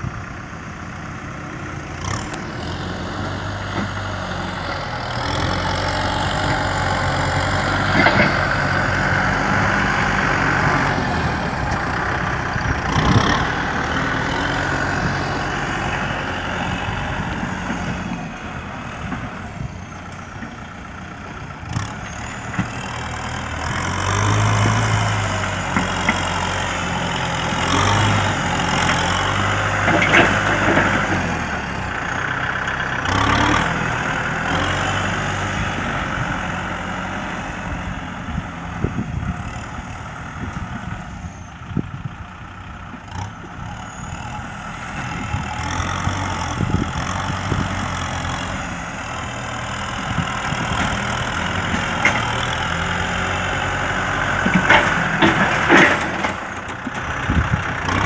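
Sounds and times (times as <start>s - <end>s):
tractor diesel engine under load: 0.0s - 58.0s
dozer blade pushing soil: 1.2s - 41.5s, 42.8s - 58.0s.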